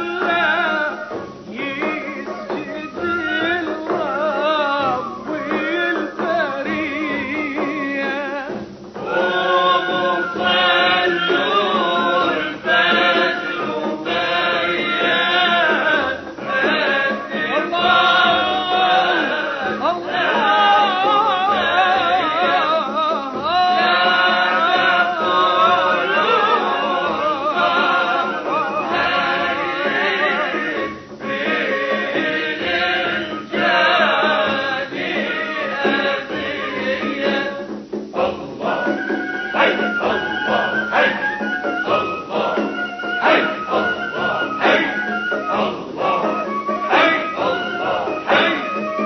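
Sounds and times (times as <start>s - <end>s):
man singing: 0.0s - 49.0s.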